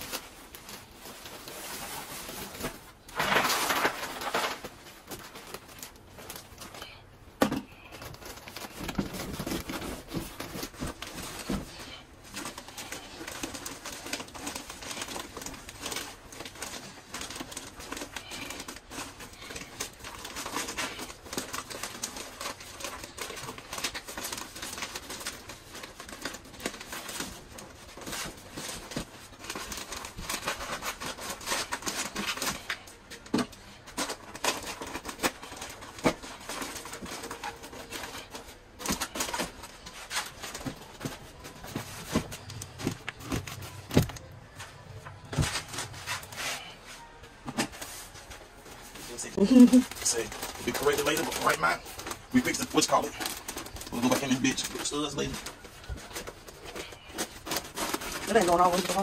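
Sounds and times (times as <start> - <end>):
paper crinkling and tearing: 0.0 - 7.0, 7.7 - 59.0.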